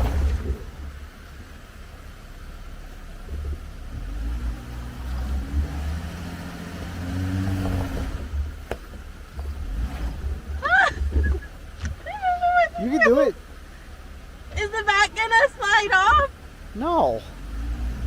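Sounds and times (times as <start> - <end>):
car engine pulling under load: 0.0 - 18.0.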